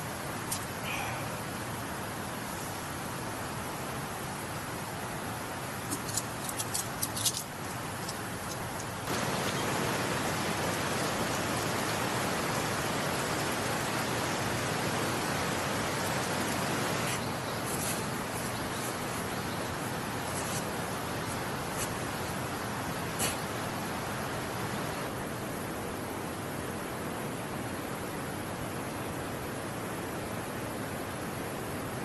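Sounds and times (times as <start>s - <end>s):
stream flowing: 0.0s - 26.7s.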